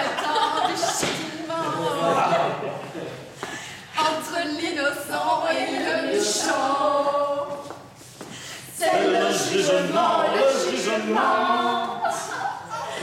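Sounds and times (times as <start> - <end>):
choir singing a cappella: 0.0 - 2.7, 4.0 - 7.7, 8.6 - 13.0.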